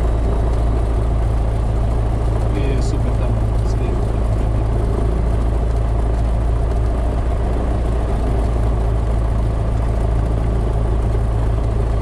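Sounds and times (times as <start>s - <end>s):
light aircraft engine idling: 0.0s - 12.0s.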